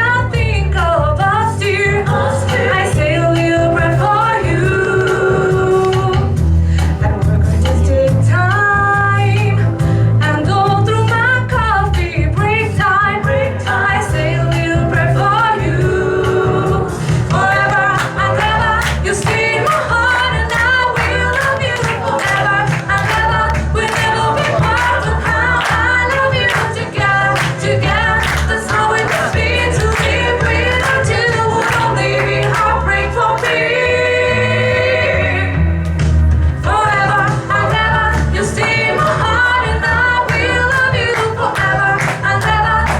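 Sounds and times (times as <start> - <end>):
song with singing: 0.0 - 42.9
stepping bass line: 0.0 - 42.9.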